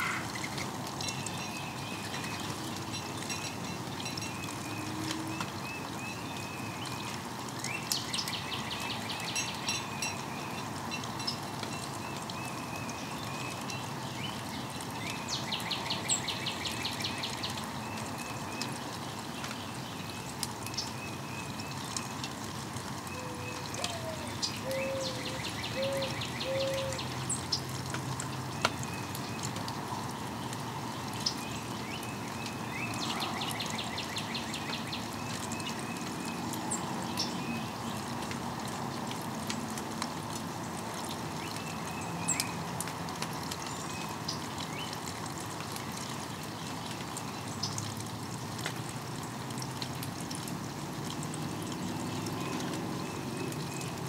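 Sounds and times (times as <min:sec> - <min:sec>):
rain dripping and pattering: 0:00.0 - 0:54.0.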